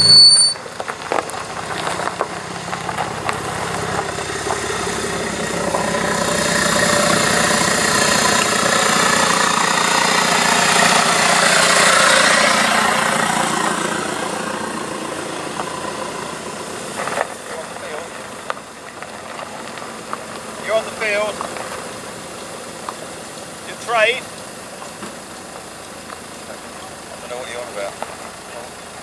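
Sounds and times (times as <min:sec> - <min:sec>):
car driving slowly past: 0:00.0 - 0:29.0.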